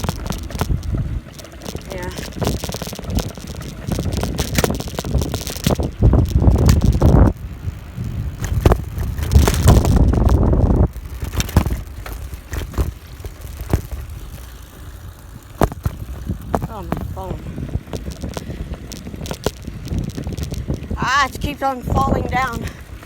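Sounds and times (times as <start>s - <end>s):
bike rattling over bumps: 0.0s - 23.0s
wind buffeting microphone: 0.0s - 23.0s.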